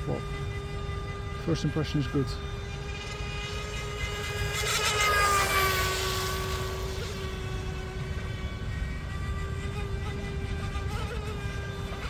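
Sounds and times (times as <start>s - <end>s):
electric motor whine of boat: 0.0s - 12.0s.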